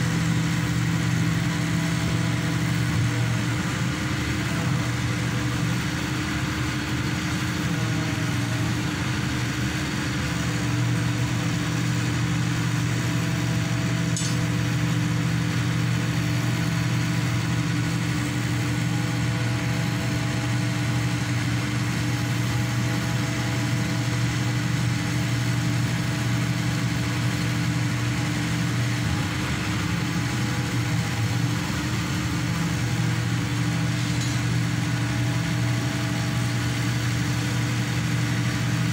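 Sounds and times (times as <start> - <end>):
pile driver engine running: 0.0 - 38.9.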